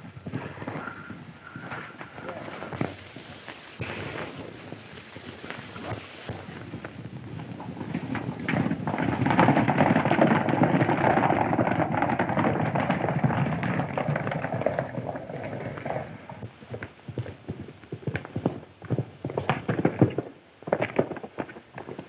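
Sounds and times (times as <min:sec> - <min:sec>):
horses galloping hoofbeats: 0:00.0 - 0:22.0.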